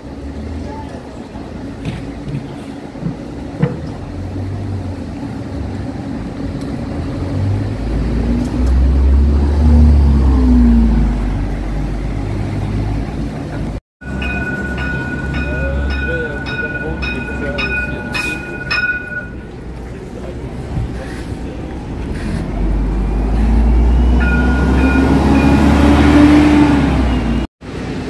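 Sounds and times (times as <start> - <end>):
bus engine passing by: 0.0 - 15.9, 19.4 - 28.0.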